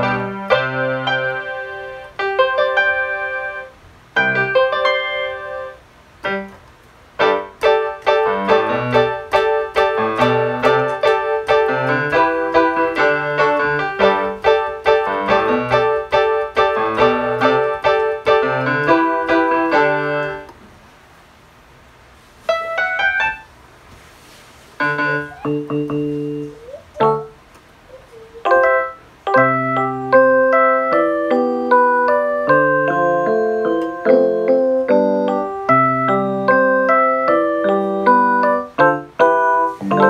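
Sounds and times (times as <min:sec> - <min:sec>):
electronic keyboard melody: 0:00.0 - 0:06.6, 0:07.2 - 0:20.5, 0:22.5 - 0:23.5, 0:24.8 - 0:40.0.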